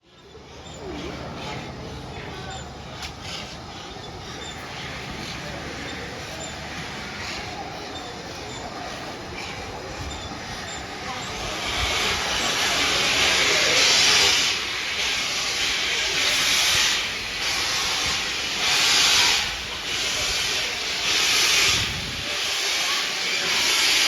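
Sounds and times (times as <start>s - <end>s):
steam locomotive hissing beats: 0.0s - 24.0s.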